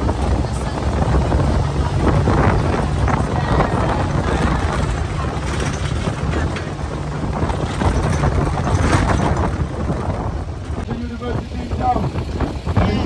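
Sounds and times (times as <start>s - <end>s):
vehicle engine and road rumble: 0.0s - 13.0s
wind buffeting microphone: 0.0s - 13.0s.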